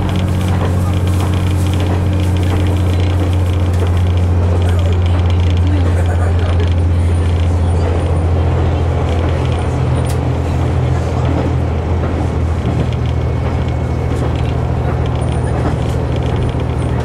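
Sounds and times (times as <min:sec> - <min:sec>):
diesel engine droning: 0:00.0 - 0:17.0
train running on track: 0:00.0 - 0:17.0.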